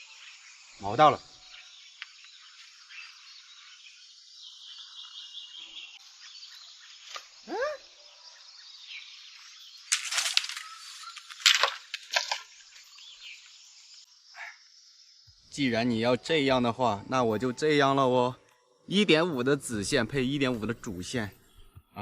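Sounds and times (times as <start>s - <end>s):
frogs and insects chorus: 0.0s - 19.8s.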